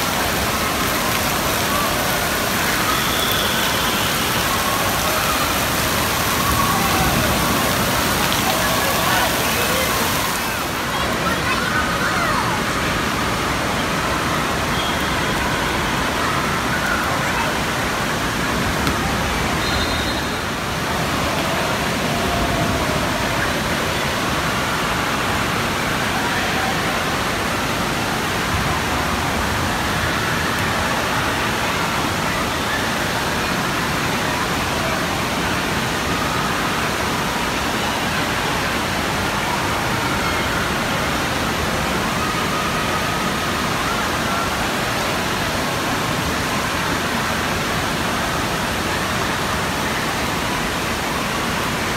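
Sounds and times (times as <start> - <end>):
faint children's voices: 0.0 - 51.9
water splashing in pools: 0.0 - 51.9.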